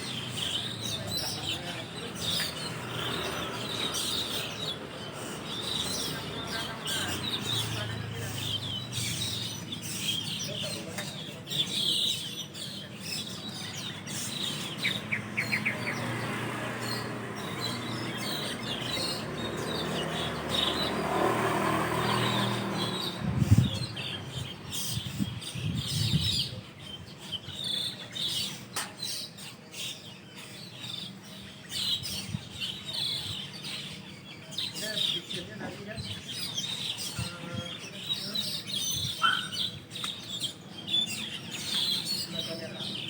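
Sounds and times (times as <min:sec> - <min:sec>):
starlings chirping: 0:00.0 - 0:43.0.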